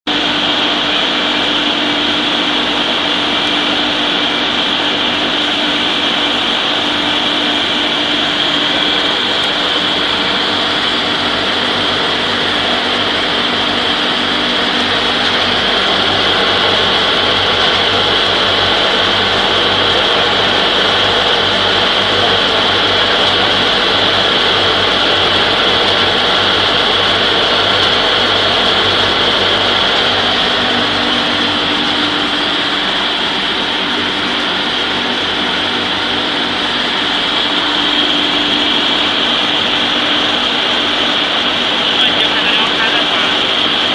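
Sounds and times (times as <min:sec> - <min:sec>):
electric grinding mill running: 0:00.1 - 0:43.9.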